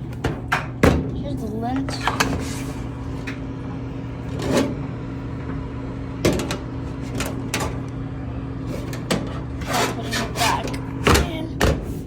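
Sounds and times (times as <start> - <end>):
low appliance hum: 0.0 - 12.0.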